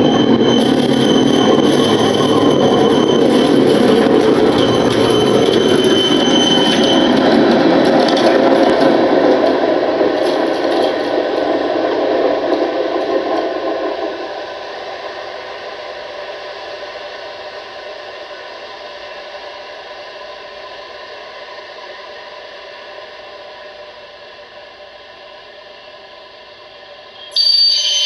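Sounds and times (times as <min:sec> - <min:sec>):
tram wheels squealing: 0:00.0 - 0:28.0.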